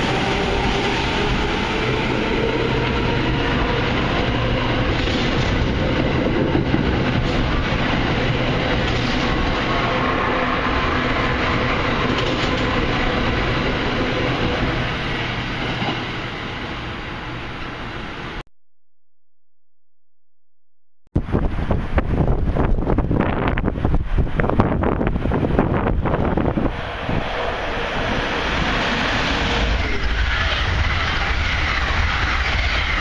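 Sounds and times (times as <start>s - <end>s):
train rolling past: 0.0s - 18.4s, 21.4s - 33.0s.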